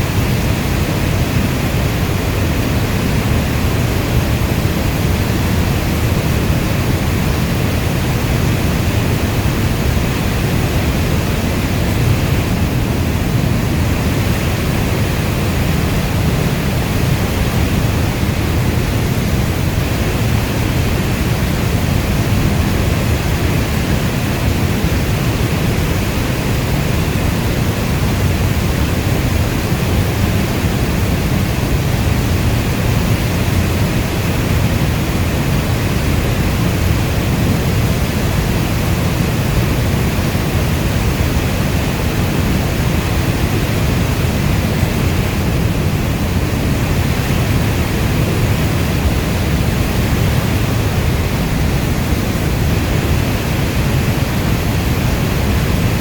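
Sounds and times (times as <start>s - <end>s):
heavy rainstorm: 0.0s - 56.0s.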